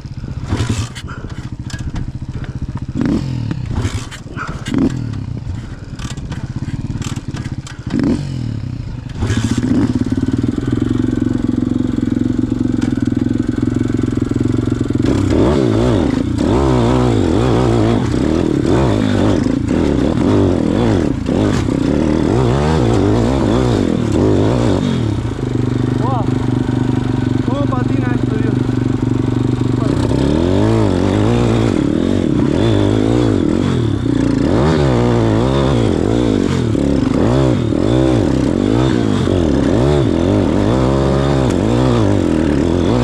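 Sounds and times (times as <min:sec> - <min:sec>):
pit bike engine revving: 0:00.0 - 0:43.0.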